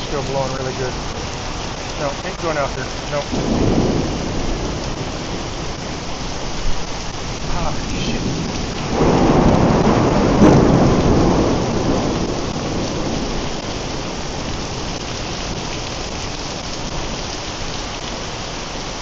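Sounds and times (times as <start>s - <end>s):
thunderclap rumbling: 0.0s - 18.2s
heavy rain downpour: 0.0s - 19.0s.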